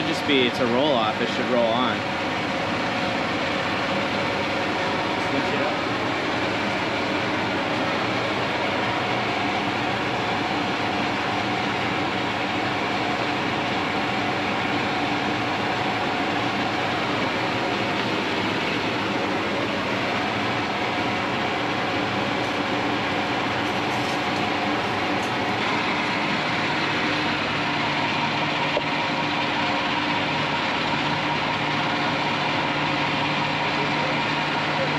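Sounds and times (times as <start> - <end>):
diesel engine running: 0.0 - 34.9
hydraulic hoist hum: 0.0 - 34.9.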